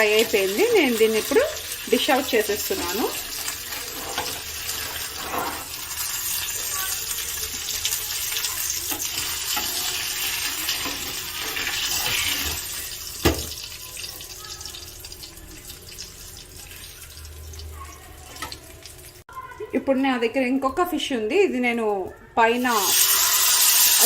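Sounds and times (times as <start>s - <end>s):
hot oil sizzling: 0.0s - 19.4s, 22.6s - 24.0s.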